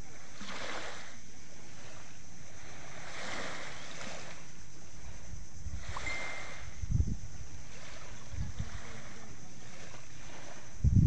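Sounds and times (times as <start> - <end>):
waves on a pebble beach: 0.0 - 11.0
wind buffeting microphone: 0.0 - 11.0.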